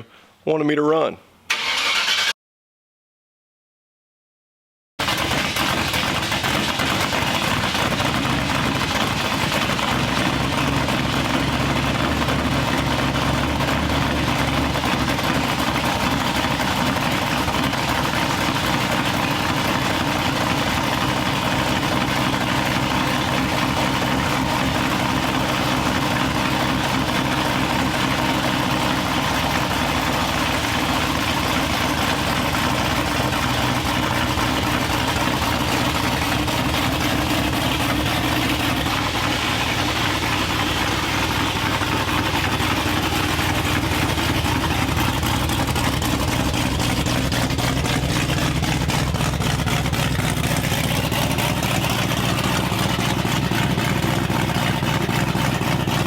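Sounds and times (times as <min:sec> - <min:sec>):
car engine running steadily: 0:05.0 - 0:56.0.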